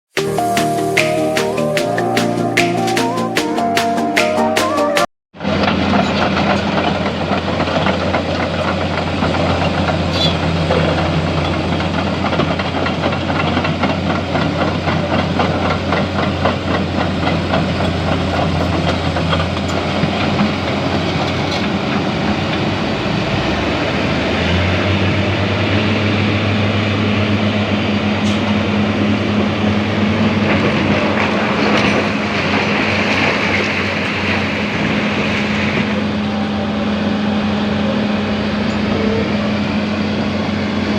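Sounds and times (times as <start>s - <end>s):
diesel engines running: 4.7s - 40.9s.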